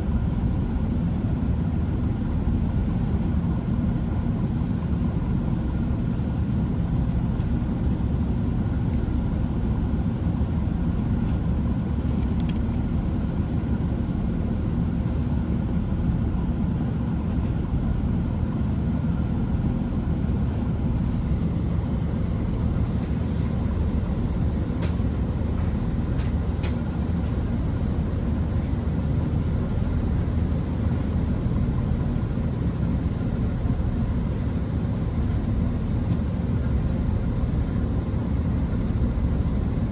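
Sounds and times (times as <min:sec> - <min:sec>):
train engine drone from inside: 0:00.0 - 0:39.9.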